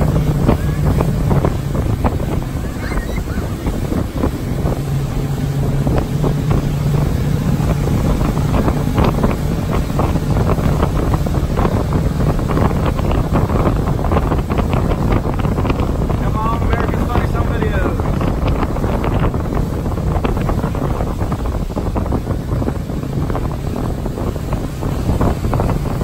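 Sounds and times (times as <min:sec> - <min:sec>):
churning wake rushing: 0:00.0 - 0:26.0
motorboat engine running: 0:00.0 - 0:26.0
wind buffeting microphone: 0:00.0 - 0:26.0.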